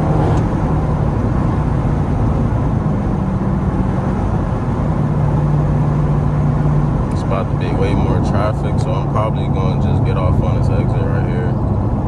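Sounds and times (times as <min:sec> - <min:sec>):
exhaust droning at cruise: 0:00.0 - 0:12.0.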